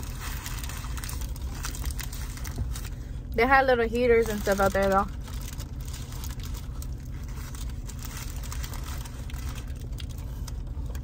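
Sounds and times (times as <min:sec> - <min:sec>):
paper wrapper crinkling: 0:00.0 - 0:03.3, 0:03.9 - 0:11.0
truck engine idling rumble: 0:00.0 - 0:11.0.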